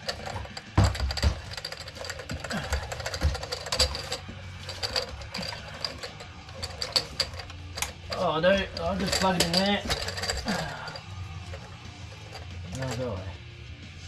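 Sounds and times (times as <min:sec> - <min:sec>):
heavy thumps: 0:00.0 - 0:13.0
tools clattering: 0:00.0 - 0:13.4.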